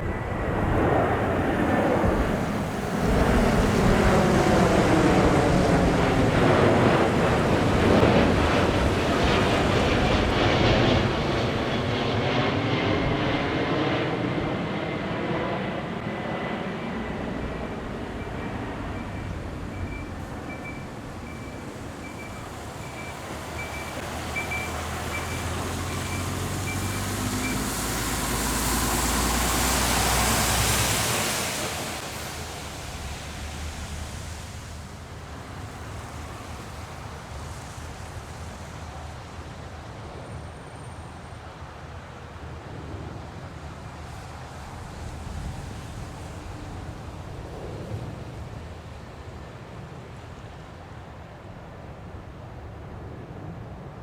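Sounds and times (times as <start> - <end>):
jet engines passing: 0.0 - 54.0
low steady jet rumble: 0.0 - 54.0.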